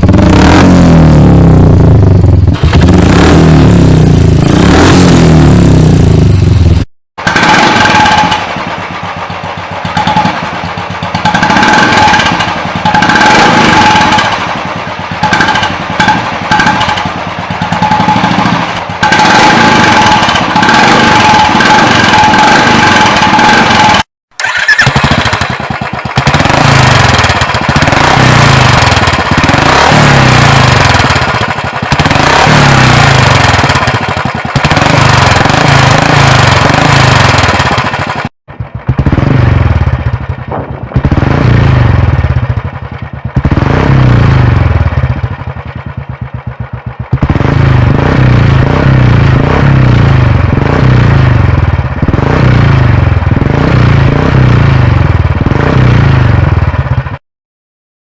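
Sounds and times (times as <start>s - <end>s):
motorcycle engine revving: 0.0s - 57.2s.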